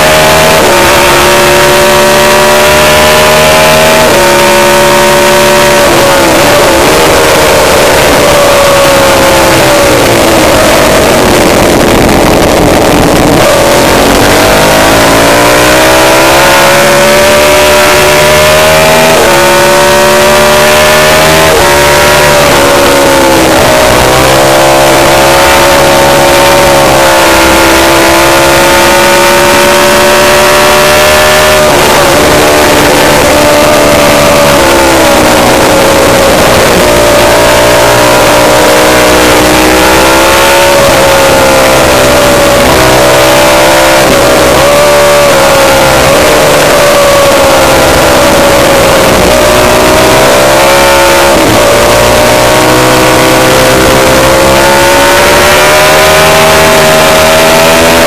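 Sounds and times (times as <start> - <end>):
racing motorcycle engine: 0.0 - 58.0.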